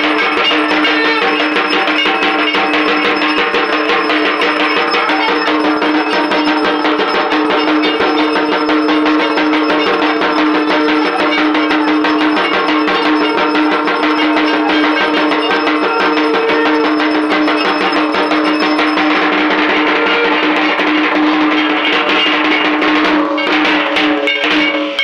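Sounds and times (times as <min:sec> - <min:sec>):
bells and gong struck rapidly: 0:00.0 - 0:25.0
steady ringing tone: 0:00.0 - 0:25.0.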